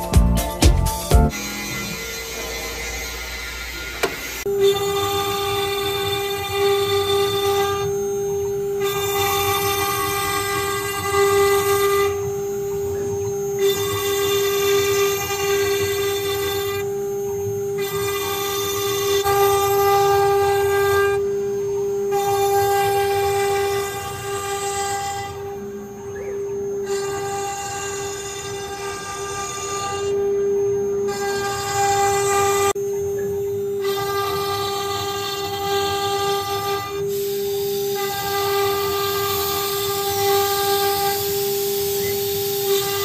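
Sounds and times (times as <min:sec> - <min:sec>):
router spindle whining: 0:01.0 - 0:43.0.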